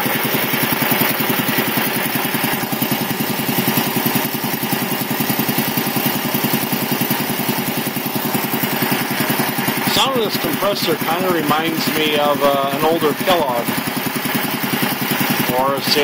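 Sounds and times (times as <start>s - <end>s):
air compressor pump running: 0.0s - 16.0s.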